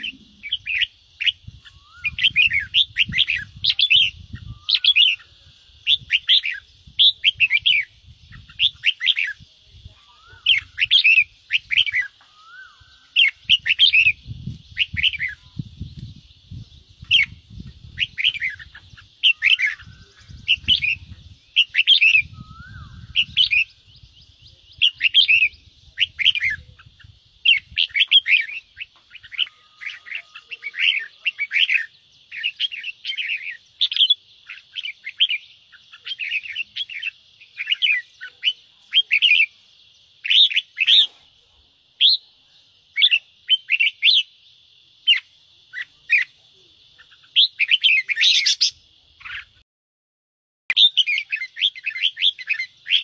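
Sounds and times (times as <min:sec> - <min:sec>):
bird chattering calls: 0:00.0 - 0:15.8, 0:17.0 - 0:41.4, 0:45.1 - 0:49.6, 0:50.7 - 0:53.0.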